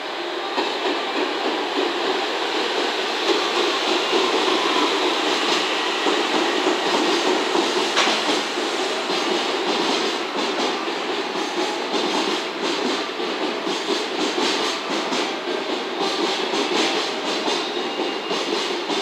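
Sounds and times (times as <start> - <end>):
train wheels rattling on rails: 0.0 - 19.0
wheels clacking at rail joints: 0.6 - 19.0.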